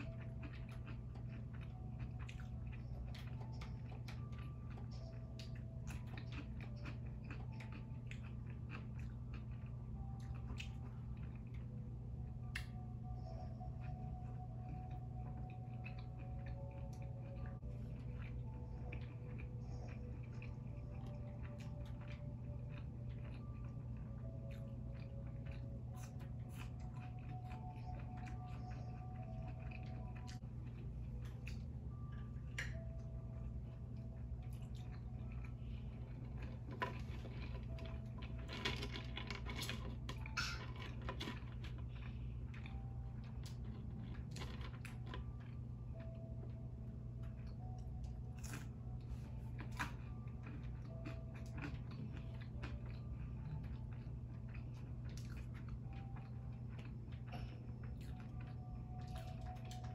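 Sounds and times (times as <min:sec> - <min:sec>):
chewing food: 0:00.0 - 0:59.9
low hum: 0:00.0 - 0:59.9.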